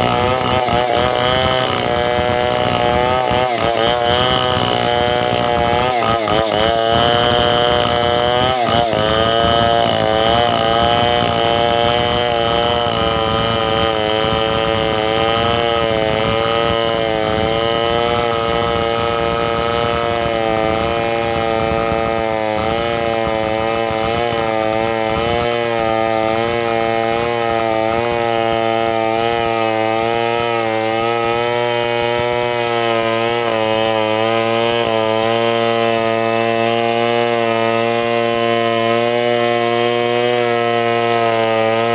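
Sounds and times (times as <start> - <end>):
chainsaw engine running at high speed: 0.0 - 41.9.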